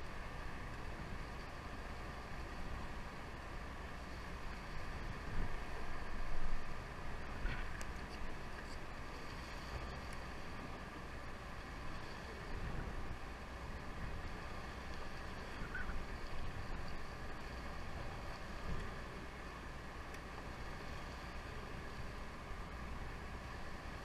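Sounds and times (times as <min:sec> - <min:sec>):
boat engine rumble: 0:00.0 - 0:24.0
hiss of wind and water: 0:00.0 - 0:24.0.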